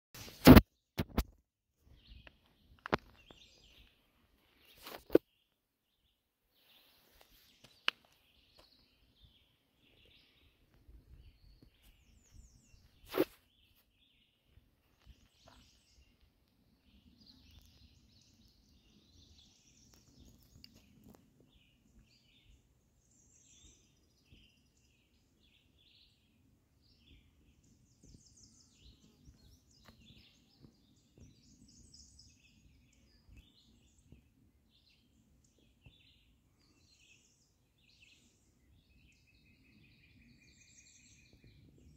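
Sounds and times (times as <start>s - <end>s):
small birds chirping: 0.4s - 41.9s.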